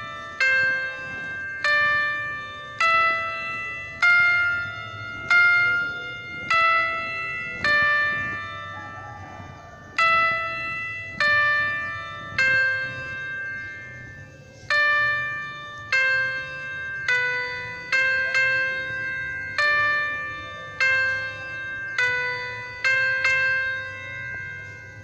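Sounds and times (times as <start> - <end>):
slow bell-like melody: 0.0 - 25.0.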